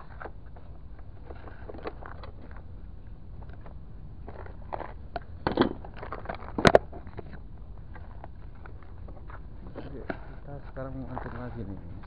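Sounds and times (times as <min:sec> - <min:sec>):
low harbour rumble: 0:00.0 - 0:12.0.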